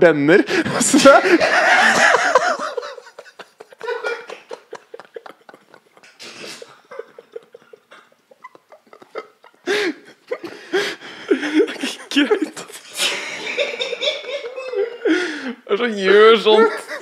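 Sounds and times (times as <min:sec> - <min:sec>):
men laughing: 0:00.5 - 0:17.0.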